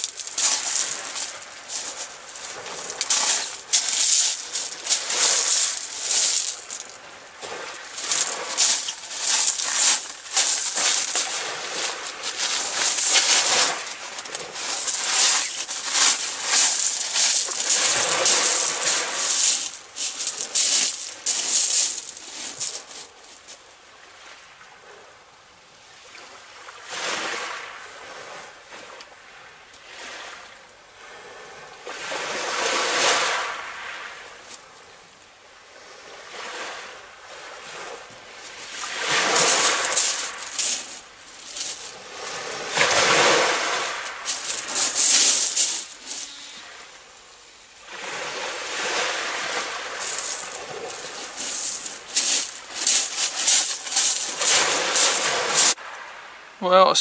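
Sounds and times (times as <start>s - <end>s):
waves breaking on shingle beach: 0.0s - 24.9s, 26.0s - 34.7s, 35.8s - 57.0s.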